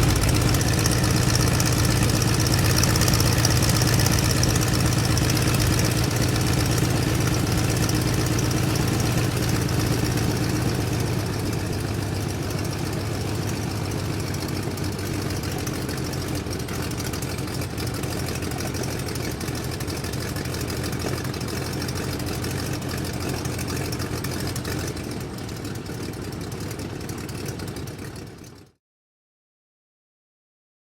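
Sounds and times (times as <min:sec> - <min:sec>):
airplane engine idling: 0:00.0 - 0:28.6.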